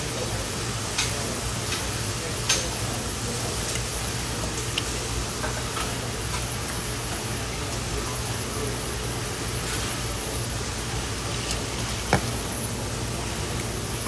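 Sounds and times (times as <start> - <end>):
restaurant background hum and hiss: 0.0 - 14.0.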